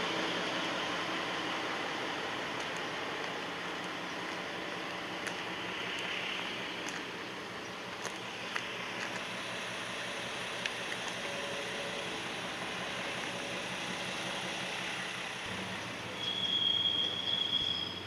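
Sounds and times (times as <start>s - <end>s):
railcar engine drone: 0.0s - 18.0s.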